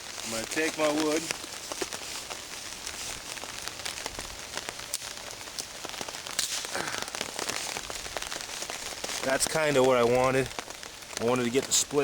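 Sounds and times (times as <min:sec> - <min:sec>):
rain pattering on a tarp: 0:00.0 - 0:12.0.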